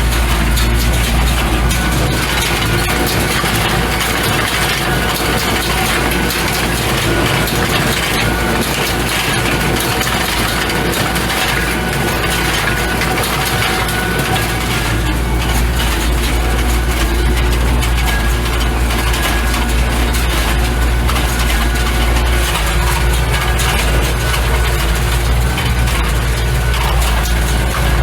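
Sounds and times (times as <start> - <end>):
baler crushing and packing hay: 0.0 - 28.0
tractor engine running: 0.0 - 28.0.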